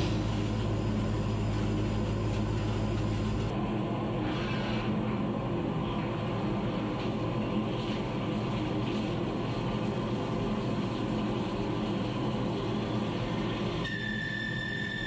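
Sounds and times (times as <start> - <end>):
machining noise with low hum: 0.0 - 15.0.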